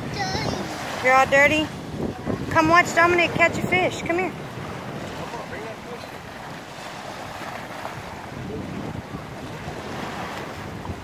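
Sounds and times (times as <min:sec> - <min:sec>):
waves splashing against seawall: 0:00.0 - 0:11.0
wind buffeting microphone: 0:00.0 - 0:11.0.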